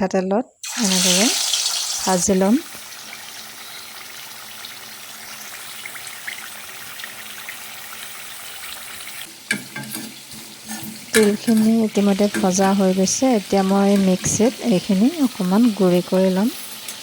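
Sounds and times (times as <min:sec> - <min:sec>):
fish sizzling in a pan: 0:00.6 - 0:17.0.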